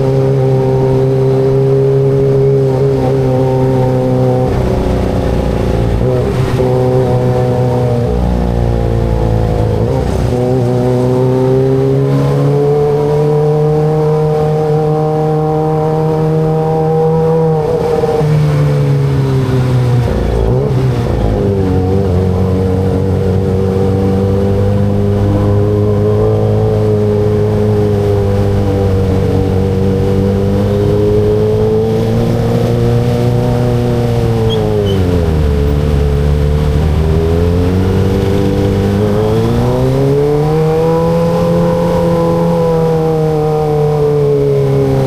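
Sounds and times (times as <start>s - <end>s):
motorcycle engine cruising: 0.0s - 45.0s.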